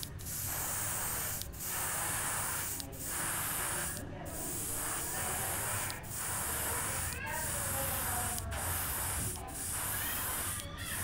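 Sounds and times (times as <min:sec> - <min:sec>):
airbrush hissing: 0:00.0 - 0:11.0.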